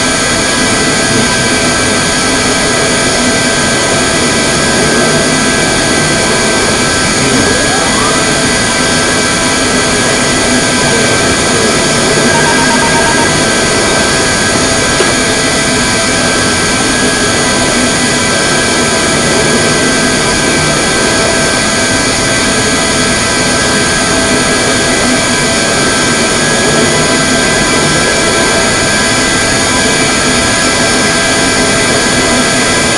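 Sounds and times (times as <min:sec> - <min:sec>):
engine whining tones: 0:00.0 - 0:32.9
jet engines at takeoff power: 0:00.0 - 0:32.9.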